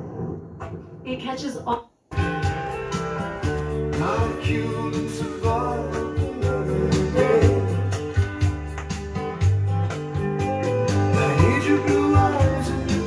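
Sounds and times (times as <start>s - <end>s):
guitar music with singing: 2.2s - 13.0s.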